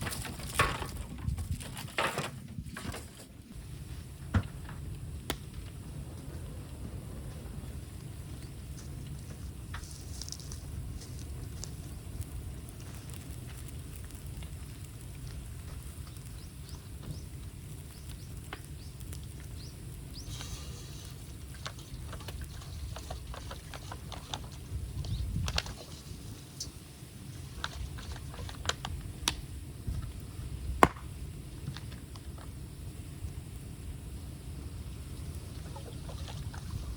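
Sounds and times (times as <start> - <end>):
bonfire crackling and snapping: 0.0 - 36.9
low fire rumble: 0.0 - 36.9.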